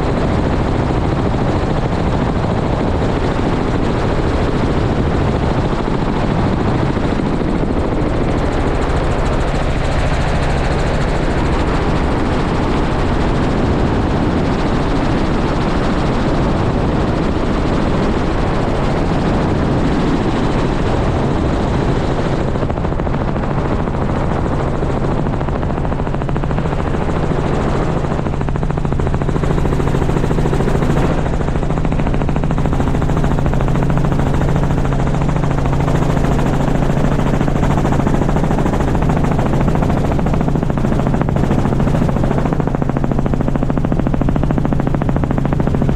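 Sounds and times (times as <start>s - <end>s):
helicopter rotor beating: 0.0s - 45.9s.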